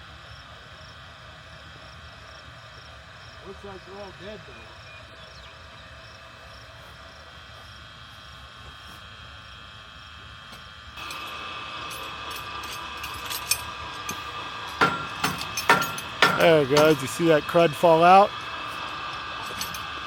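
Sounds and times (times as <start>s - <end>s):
steady high hum: 0.0s - 20.0s.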